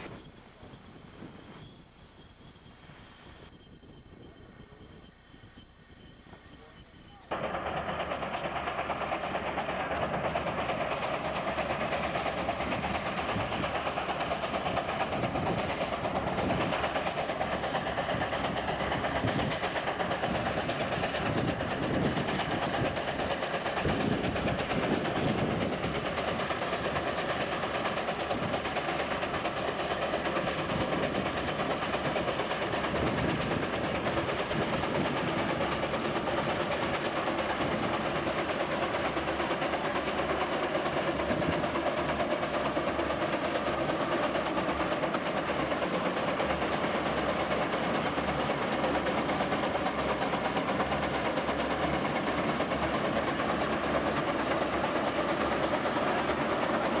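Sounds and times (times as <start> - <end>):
steam tractor working under load: 0.0 - 57.0.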